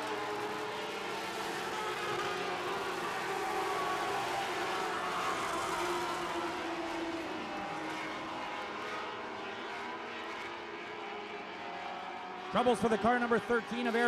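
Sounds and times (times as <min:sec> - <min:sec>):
racing car engines droning: 0:00.0 - 0:14.0.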